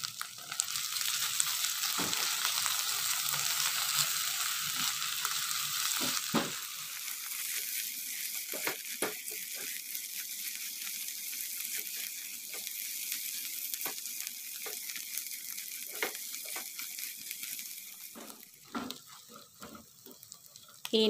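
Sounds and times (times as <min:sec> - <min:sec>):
sauce sizzling in oil: 0:00.0 - 0:21.0.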